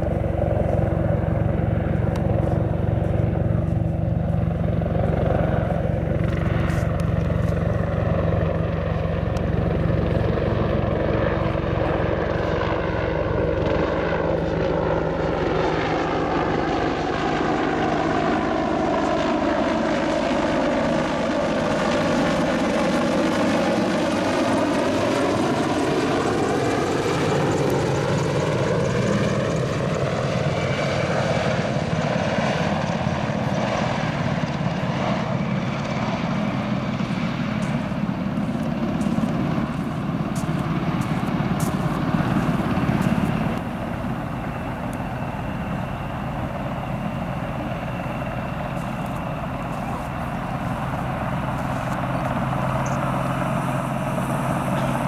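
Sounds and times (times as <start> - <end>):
helicopter flying past: 0.0 - 55.0.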